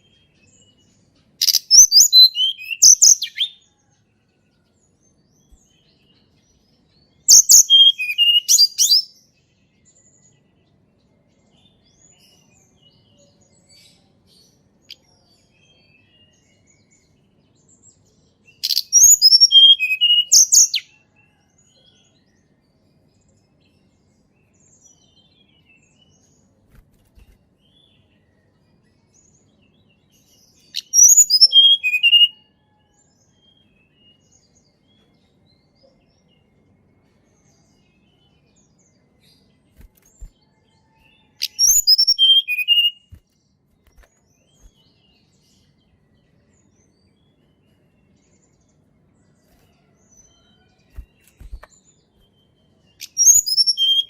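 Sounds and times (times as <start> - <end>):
songbird singing high phrases: 0.0 - 3.9, 5.2 - 21.4, 27.1 - 54.0.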